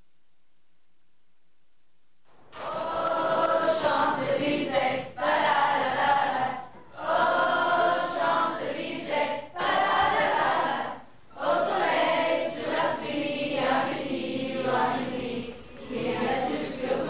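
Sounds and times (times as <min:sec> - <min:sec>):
group singing: 0:02.5 - 0:17.0.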